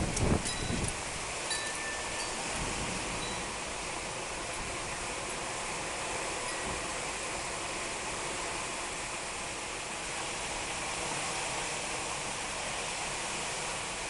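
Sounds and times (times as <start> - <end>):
heavy rain: 0.0 - 14.0
strong wind: 0.0 - 14.0.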